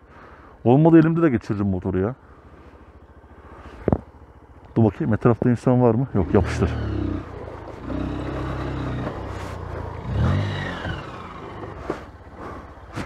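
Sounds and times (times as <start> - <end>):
motorcycle engine labouring: 0.2 - 13.0.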